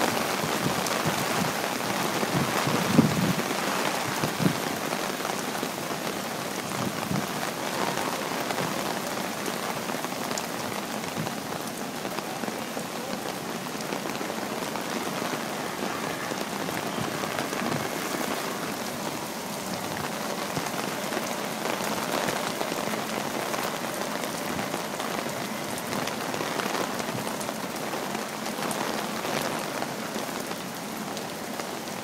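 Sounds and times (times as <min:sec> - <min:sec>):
heavy rain on pavement: 0:00.0 - 0:32.0.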